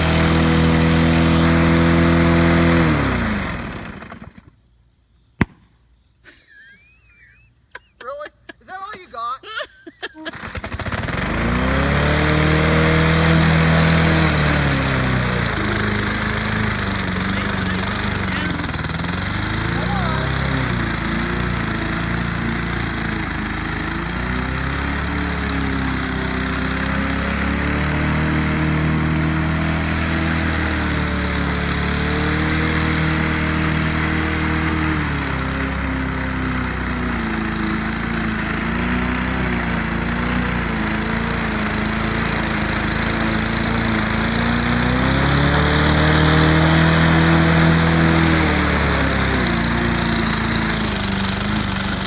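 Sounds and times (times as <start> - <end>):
lawn mower engine running fast: 0.0 - 4.5, 8.1 - 52.0.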